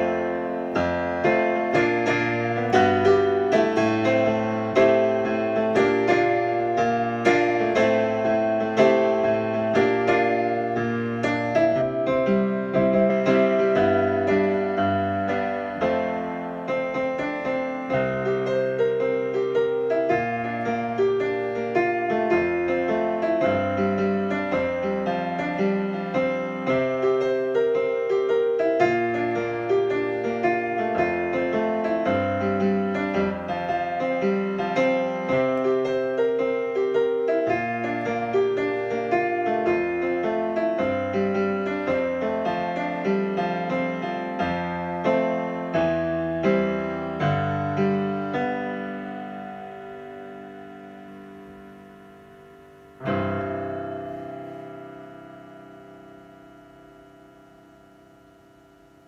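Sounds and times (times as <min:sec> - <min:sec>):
piano chords and melody: 0:00.0 - 0:59.0.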